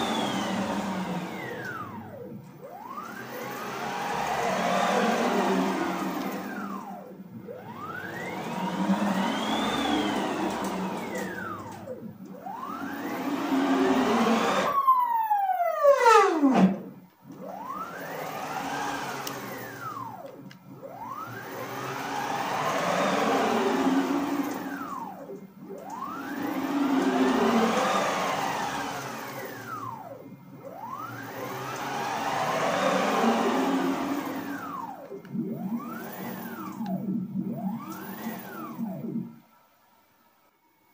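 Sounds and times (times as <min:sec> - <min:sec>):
stepper motors whining: 0:00.0 - 0:40.0.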